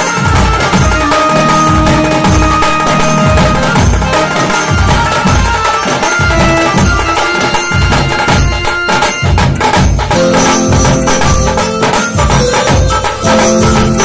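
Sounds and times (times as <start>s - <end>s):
deep drum beat: 0.0s - 14.0s
drums struck fast with sticks: 0.0s - 14.0s
electronic keyboard melody: 0.0s - 14.0s.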